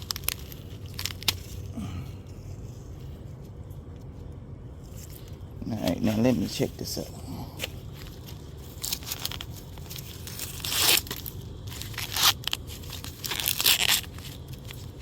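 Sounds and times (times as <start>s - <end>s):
corn husks tearing: 0.0s - 2.9s, 4.9s - 15.0s.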